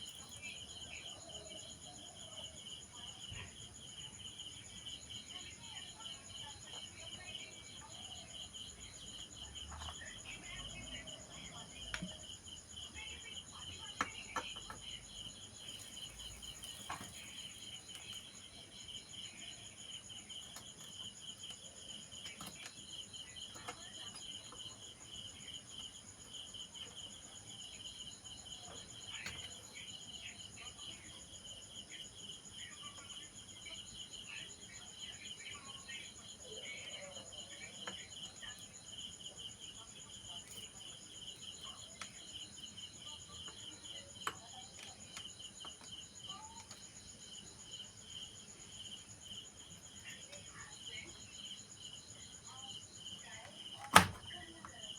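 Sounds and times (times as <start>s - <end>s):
insects trilling: 0.0s - 54.9s.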